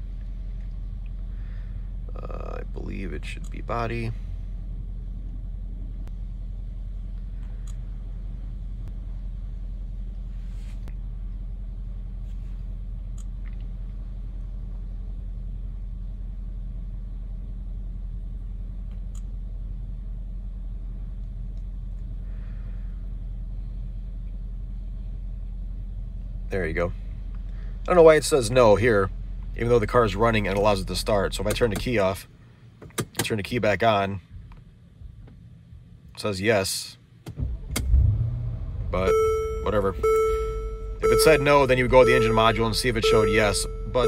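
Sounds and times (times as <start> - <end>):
car engine idling: 0.0 - 32.7, 37.4 - 44.0.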